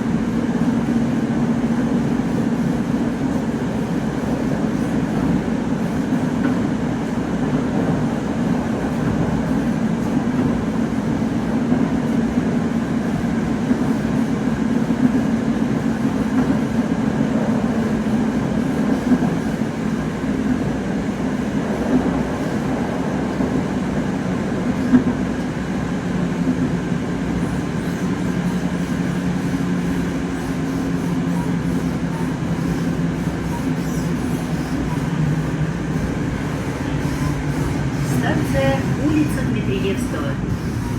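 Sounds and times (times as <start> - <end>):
metro train rumbling: 0.0 - 40.9.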